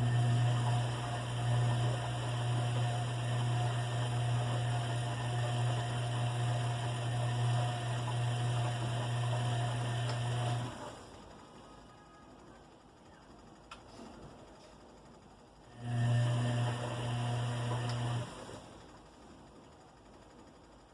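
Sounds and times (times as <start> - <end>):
washing machine motor humming: 0.0 - 20.9.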